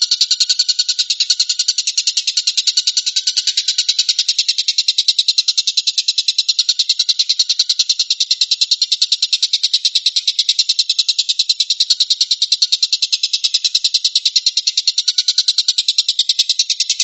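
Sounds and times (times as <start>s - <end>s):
songbird trilling: 0.0s - 17.0s.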